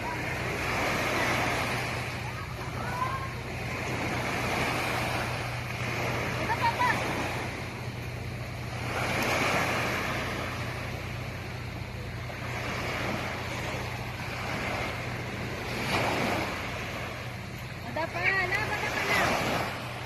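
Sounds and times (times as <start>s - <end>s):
sea waves washing in: 0.0s - 20.0s
steady low hum: 0.0s - 20.0s.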